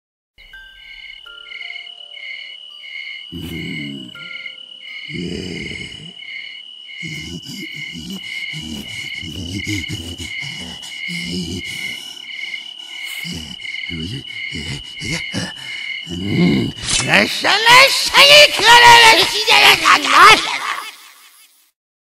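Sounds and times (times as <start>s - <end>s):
crickets chirping: 0.4s - 21.7s
high insect trill: 0.4s - 21.8s.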